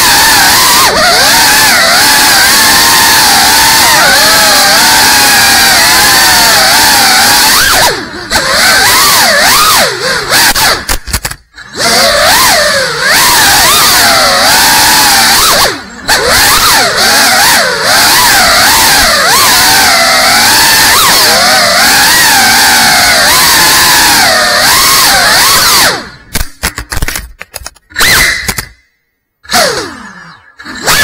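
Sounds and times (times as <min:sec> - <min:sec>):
drone motors and propellers whining: 0:00.0 - 0:31.0.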